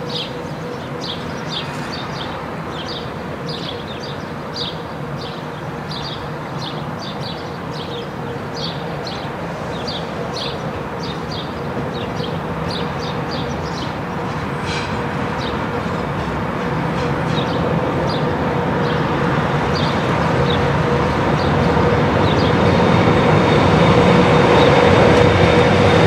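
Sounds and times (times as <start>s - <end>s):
birds chirping: 0.0s - 25.4s
electric locomotive rumble and hum: 0.0s - 26.0s.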